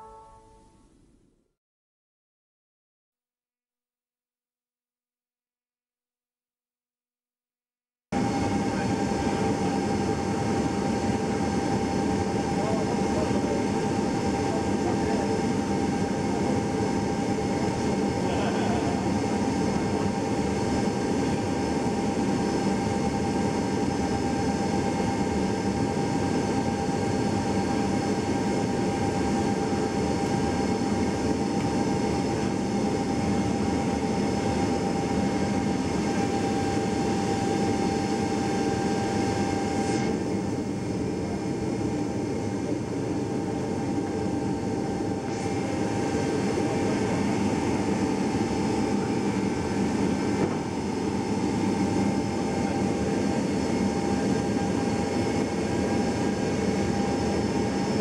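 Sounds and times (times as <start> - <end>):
jet engines rumbling with whine: 8.2 - 58.0.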